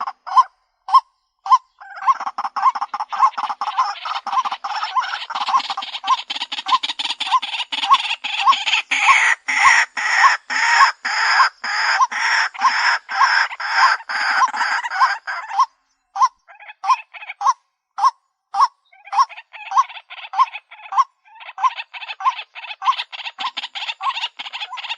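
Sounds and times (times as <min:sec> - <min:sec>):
bird calling harsh notes: 0:00.0 - 0:21.7.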